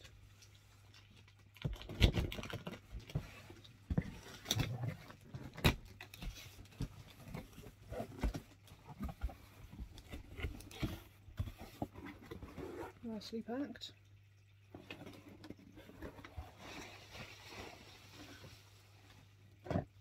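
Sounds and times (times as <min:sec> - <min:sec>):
cardboard packaging rustling: 0:00.0 - 0:13.0, 0:15.0 - 0:19.4.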